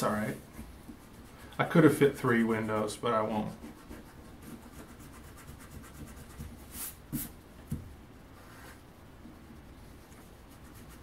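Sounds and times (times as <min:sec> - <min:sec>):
pencil scratching on paper: 0:00.0 - 0:07.3, 0:09.5 - 0:11.0.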